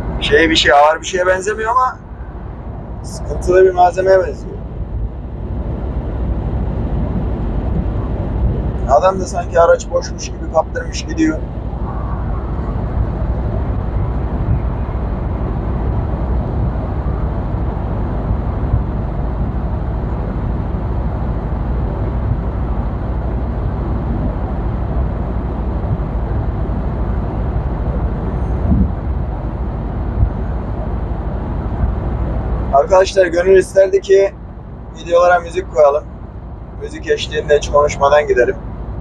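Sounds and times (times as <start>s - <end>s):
truck engine and road noise: 0.0s - 39.0s.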